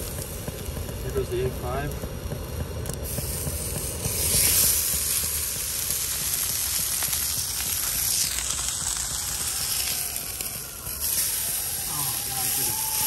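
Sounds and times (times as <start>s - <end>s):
low rumble: 0.0s - 13.0s
meat patty sizzling on griddle: 0.0s - 13.0s.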